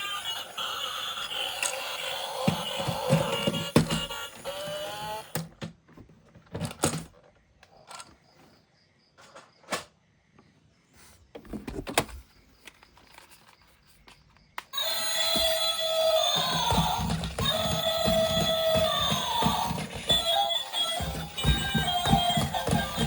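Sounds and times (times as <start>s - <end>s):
toys and packaging clicking: 0.0s - 8.2s, 11.5s - 23.0s.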